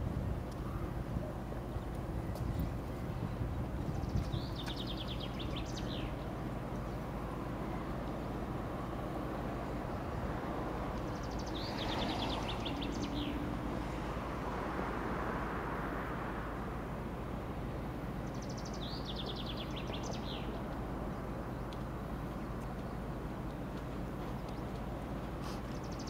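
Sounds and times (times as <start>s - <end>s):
idling diesel locomotives rumble: 0.0s - 26.0s.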